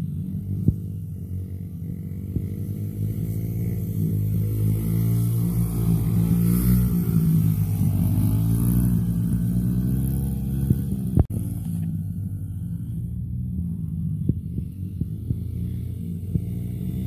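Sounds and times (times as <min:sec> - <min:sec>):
mini dirt bike motors: 0:00.0 - 0:17.0.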